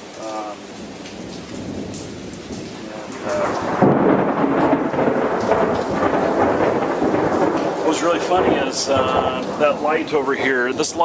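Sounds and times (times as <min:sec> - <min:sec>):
steady rain: 0:00.0 - 0:11.0
thunder rumbling: 0:00.2 - 0:11.0.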